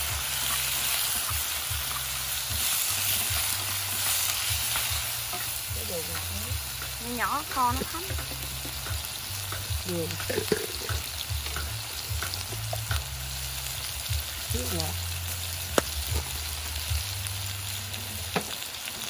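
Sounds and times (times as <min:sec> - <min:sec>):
fish frying in hot oil: 0:00.0 - 0:19.0.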